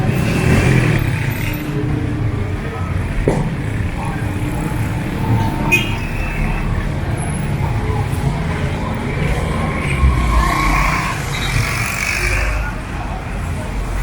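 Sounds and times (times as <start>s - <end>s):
faint voices: 0.0s - 14.0s
traffic rumble: 0.0s - 14.0s.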